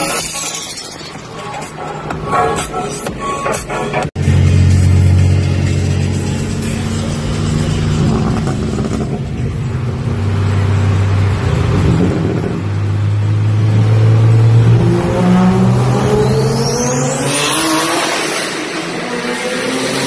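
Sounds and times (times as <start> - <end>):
car engine accelerating: 3.9 - 20.0.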